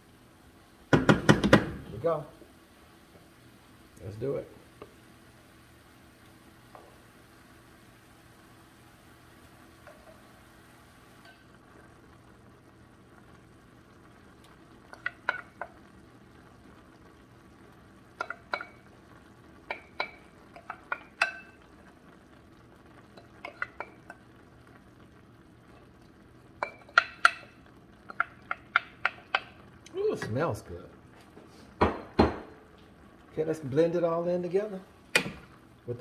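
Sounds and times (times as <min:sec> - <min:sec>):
vegetables sizzling in a pan: 0:00.0 - 0:36.0.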